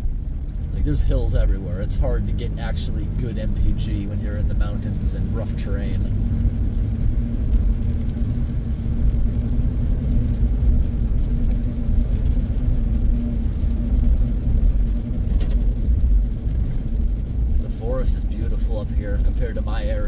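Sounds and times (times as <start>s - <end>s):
car driving on wet pavement: 0.0s - 20.0s.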